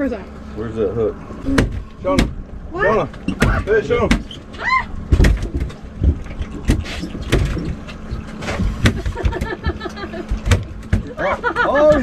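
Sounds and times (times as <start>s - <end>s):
boat motors humming: 0.0s - 12.0s
knocks and thumps on boat: 1.5s - 2.4s, 3.0s - 12.0s.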